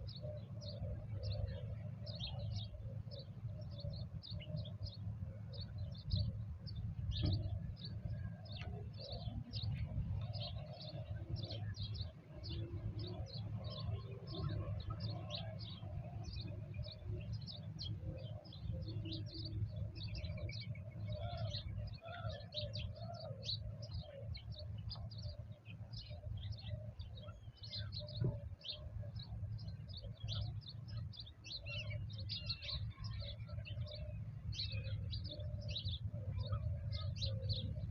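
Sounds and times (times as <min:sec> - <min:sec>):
doves cooing: 0:00.0 - 0:37.9
small birds chirping: 0:00.0 - 0:37.9.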